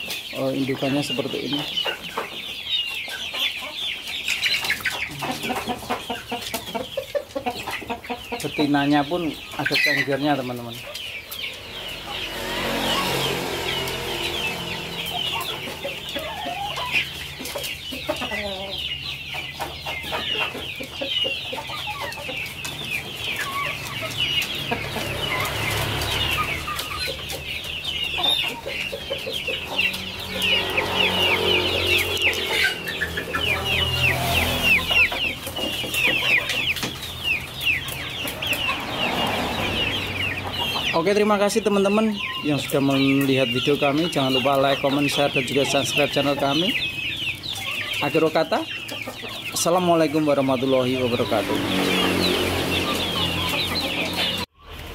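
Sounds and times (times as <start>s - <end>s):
chickens cheeping: 0.0s - 54.9s
chickens clucking: 0.0s - 54.9s.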